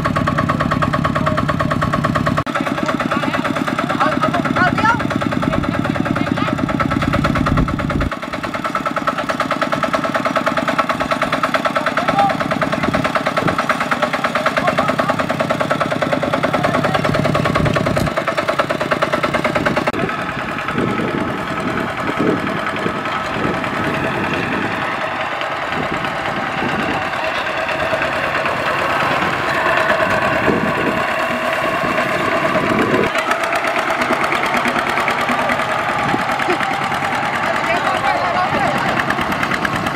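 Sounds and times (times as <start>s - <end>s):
another tractor engine: 0.0s - 39.9s
diesel tractor engine running: 0.0s - 39.9s.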